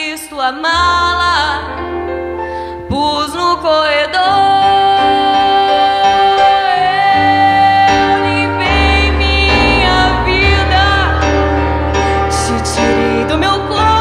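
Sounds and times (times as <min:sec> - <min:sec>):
woman singing: 0:00.0 - 0:02.2, 0:02.8 - 0:14.0
piano: 0:00.0 - 0:14.0.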